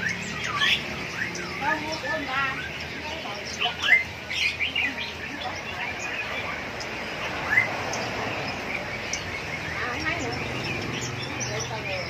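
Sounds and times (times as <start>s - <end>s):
many birds chirping and calling: 0.0s - 12.0s.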